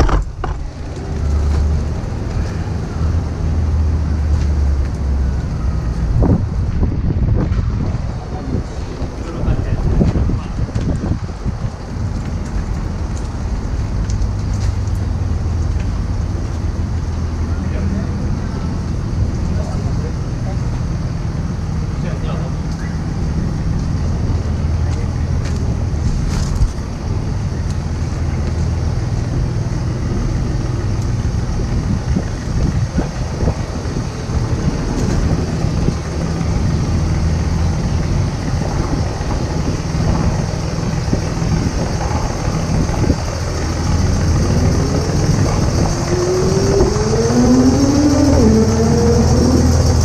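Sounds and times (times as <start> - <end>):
engine humming: 0.0 - 50.0.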